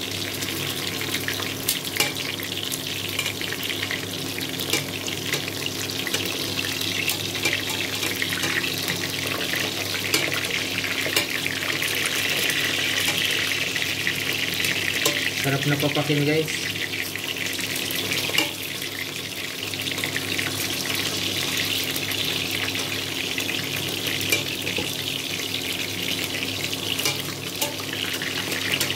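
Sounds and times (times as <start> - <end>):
meat sizzling in oil: 0.0 - 28.9.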